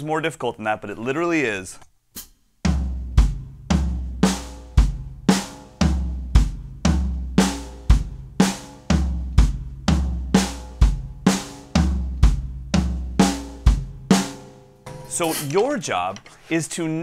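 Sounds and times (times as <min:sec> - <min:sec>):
drum strokes: 0:02.2 - 0:16.3.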